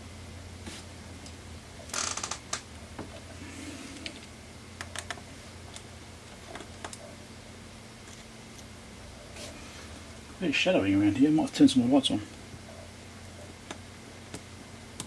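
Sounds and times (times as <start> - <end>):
low bench hum: 0.0 - 15.0.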